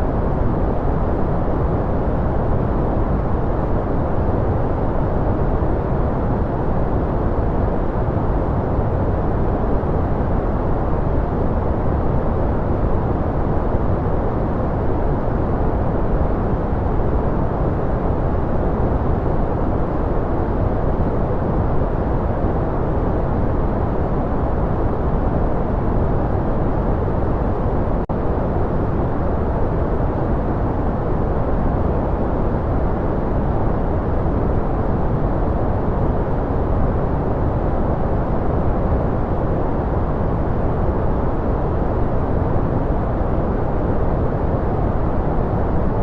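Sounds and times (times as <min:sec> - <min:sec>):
steady low white noise: 0:00.0 - 0:46.0.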